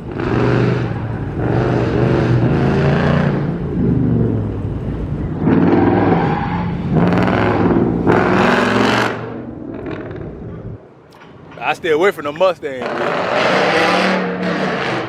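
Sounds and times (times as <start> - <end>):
car engine revving: 0.0 - 10.8, 12.8 - 15.0.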